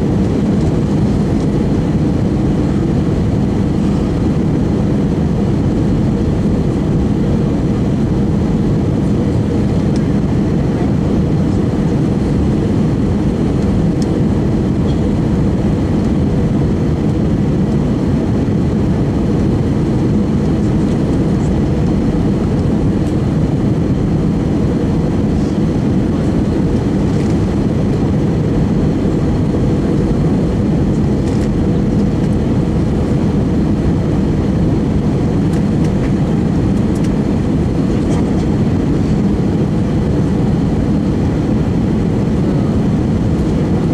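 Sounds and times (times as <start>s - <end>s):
airliner cabin engine roar: 0.0s - 43.9s.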